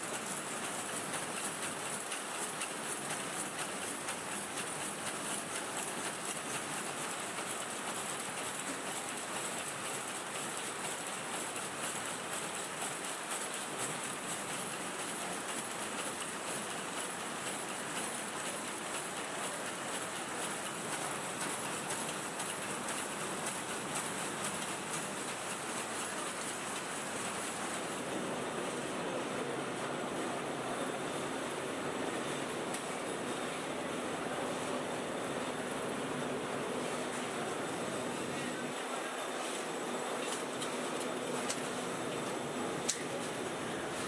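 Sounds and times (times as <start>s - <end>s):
machinery clattering and hissing: 0.0s - 44.0s.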